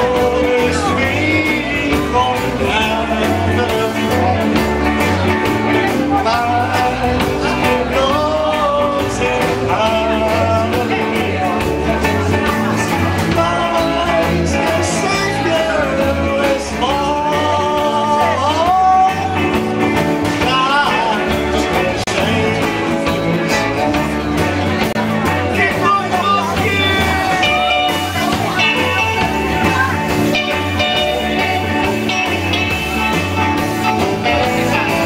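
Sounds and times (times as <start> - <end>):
person singing: 0.0 - 35.0
repeating bass line: 0.0 - 35.0
rock and roll song: 0.0 - 35.0.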